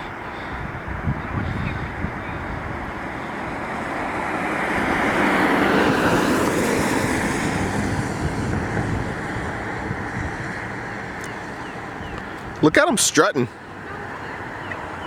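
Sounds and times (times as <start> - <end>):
car passing by: 0.4 - 12.8.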